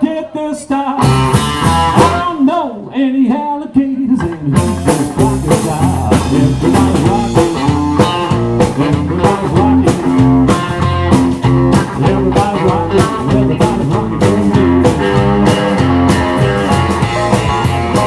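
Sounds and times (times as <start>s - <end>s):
bass guitar: 0.0s - 18.0s
drums: 0.0s - 18.0s
electric guitar: 0.0s - 18.0s.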